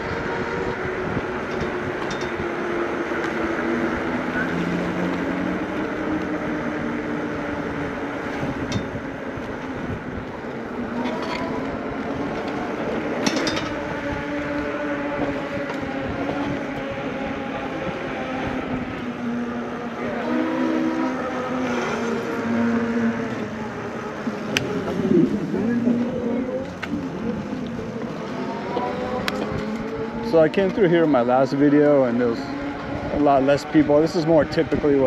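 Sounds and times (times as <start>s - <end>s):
wind on microphone: 0.0s - 31.4s, 32.5s - 35.0s.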